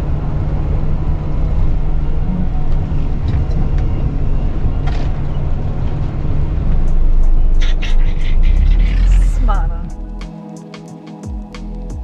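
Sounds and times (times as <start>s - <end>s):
diesel truck engine droning: 0.0s - 10.3s.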